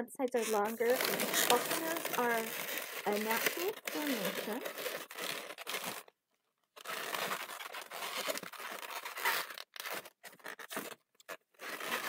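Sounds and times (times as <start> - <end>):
balloons rubbing and squeaking: 0.3 - 6.1, 6.8 - 12.0.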